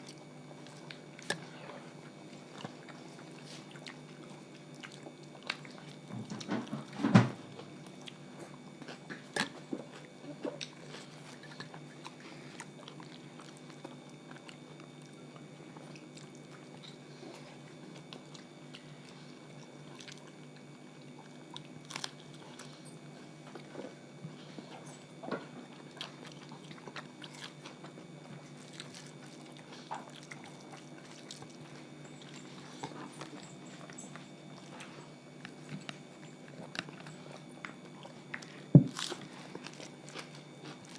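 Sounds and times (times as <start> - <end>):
people chewing and eating: 0.0 - 40.9.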